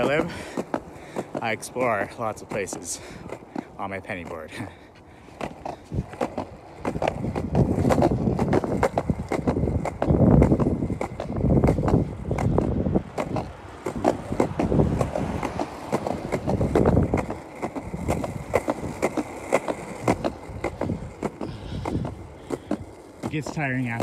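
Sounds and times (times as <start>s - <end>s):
skateboard clicks and knocks: 0.0s - 24.0s
skateboard wheels rumbling on pavement: 0.0s - 24.0s.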